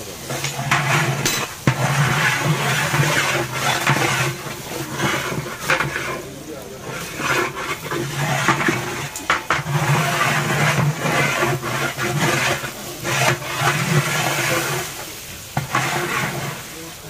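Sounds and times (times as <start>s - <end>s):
metal spatula scraping pot: 0.0s - 17.0s
rice frying in oil: 0.0s - 17.0s.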